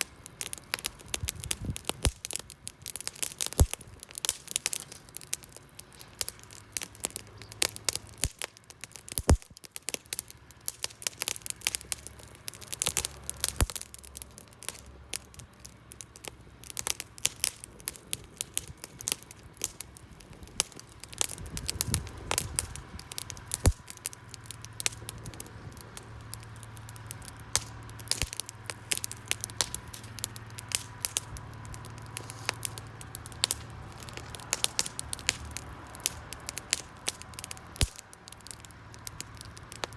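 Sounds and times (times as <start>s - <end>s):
burning wood popping: 0.0s - 39.9s
campfire crackling: 0.0s - 39.9s
low steady hum: 0.0s - 39.9s.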